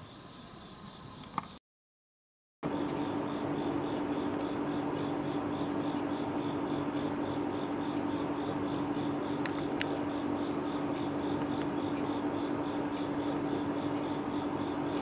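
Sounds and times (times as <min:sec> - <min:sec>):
crickets chirping: 0:00.0 - 0:01.6, 0:02.6 - 0:15.0
continuous high whine: 0:02.6 - 0:15.0
steady low hum: 0:02.6 - 0:15.0.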